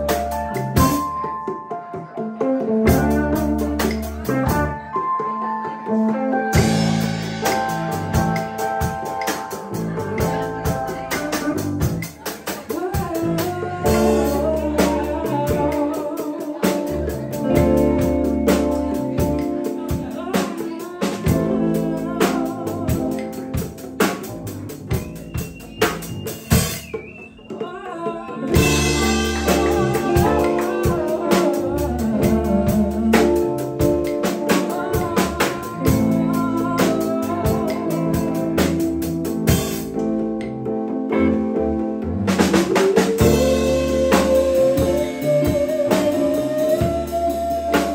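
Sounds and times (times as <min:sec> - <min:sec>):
sustained bass notes: 0:00.0 - 0:01.1, 0:02.8 - 0:04.8, 0:06.5 - 0:12.1, 0:13.0 - 0:20.3, 0:21.1 - 0:26.8, 0:28.5 - 0:47.9
drum kit: 0:00.0 - 0:47.9
live band playing: 0:00.0 - 0:47.9.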